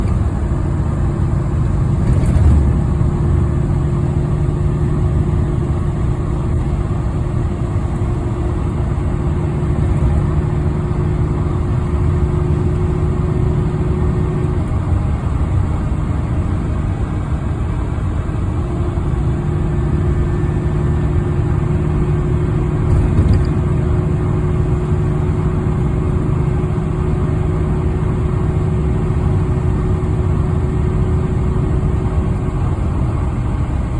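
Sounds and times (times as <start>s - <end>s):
vehicle engine humming: 0.0s - 33.9s.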